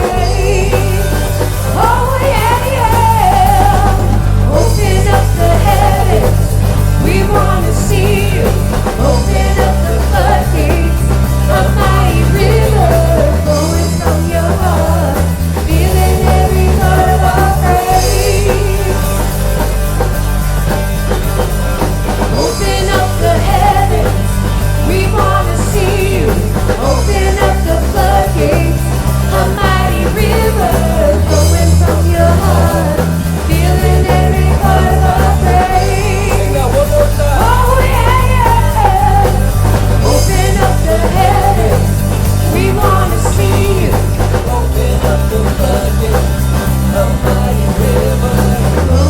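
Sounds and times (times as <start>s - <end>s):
drums with cymbals: 0.0s - 49.0s
electric bass long notes: 0.0s - 49.0s
guitar: 0.0s - 49.0s
lead voice singing: 0.0s - 49.0s
rock band playing: 0.0s - 49.0s.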